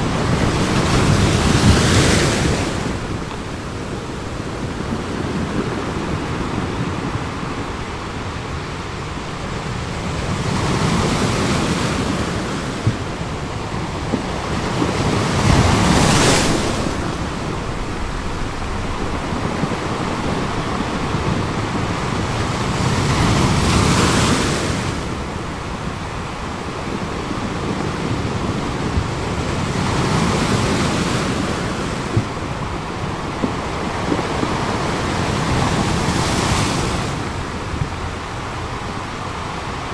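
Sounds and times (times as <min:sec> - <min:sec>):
waves breaking on rocks: 0:00.0 - 0:39.9.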